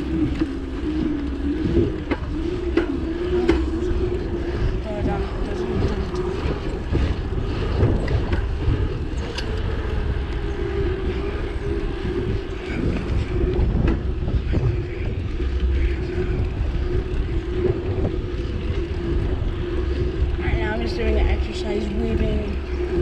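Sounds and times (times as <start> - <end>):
bicycle tyres rolling on pavement: 0.0 - 23.0
steady hum: 0.0 - 23.0
wind rumble on microphone: 0.0 - 23.0.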